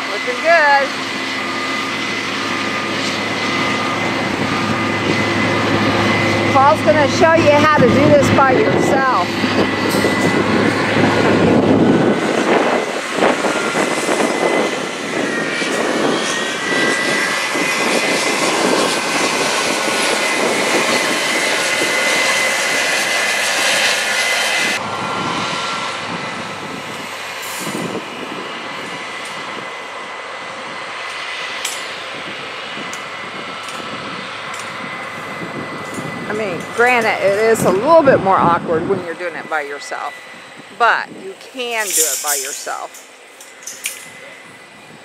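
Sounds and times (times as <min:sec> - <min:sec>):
combine harvester engine drone: 0:00.0 - 0:45.0.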